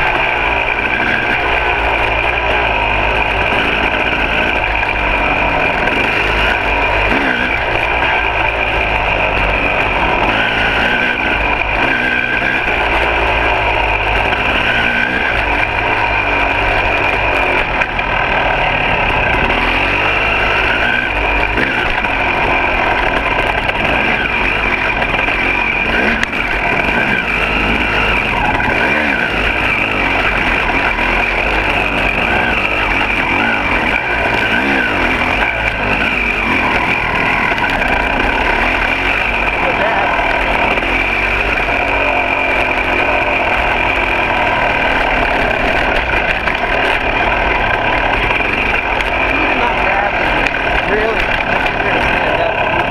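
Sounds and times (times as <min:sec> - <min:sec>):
dirt bike engine: 0:00.0 - 0:52.9.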